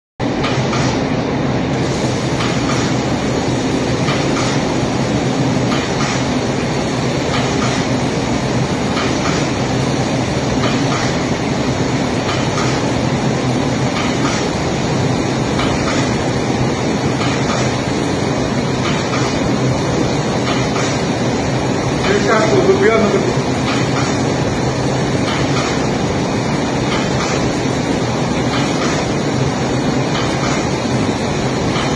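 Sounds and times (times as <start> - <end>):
industrial machine drone: 0.2 - 31.9.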